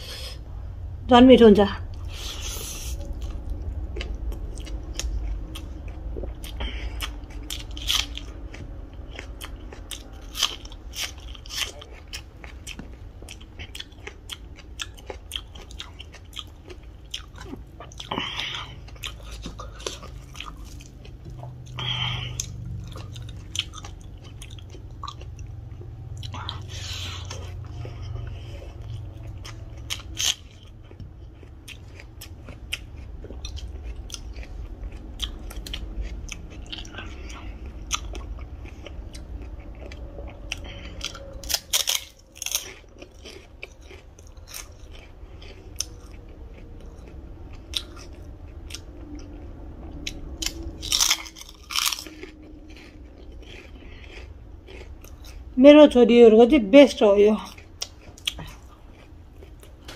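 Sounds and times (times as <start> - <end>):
low steady hum: 0.0 - 59.9
person chewing food: 1.9 - 55.6, 57.4 - 59.9.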